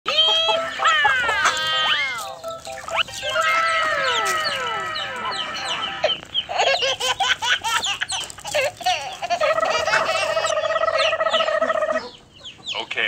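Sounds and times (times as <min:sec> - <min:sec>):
hens clucking and chirping: 0:00.1 - 0:13.0.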